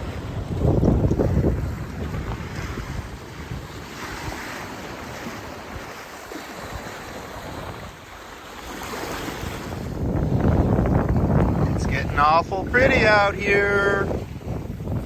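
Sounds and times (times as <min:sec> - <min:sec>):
sea water rushing around boat: 0:00.0 - 0:15.0
wind on microphone: 0:00.0 - 0:15.0.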